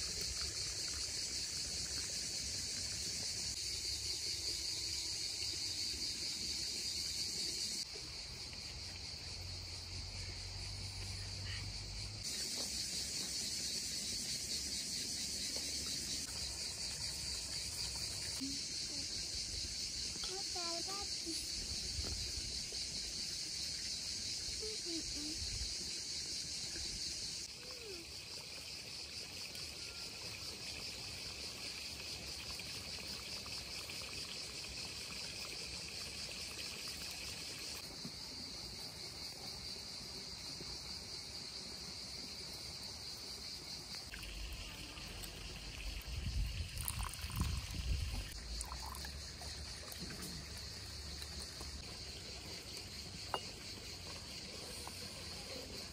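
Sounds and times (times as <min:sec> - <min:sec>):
insect chorus: 0:00.0 - 0:55.9.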